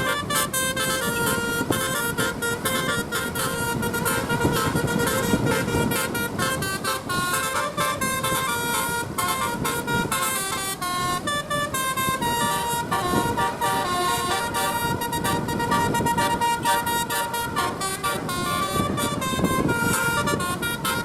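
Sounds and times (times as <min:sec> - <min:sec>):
bus musical horn playing a tune: 0:00.0 - 0:21.0
steady rough background noise: 0:00.0 - 0:21.0.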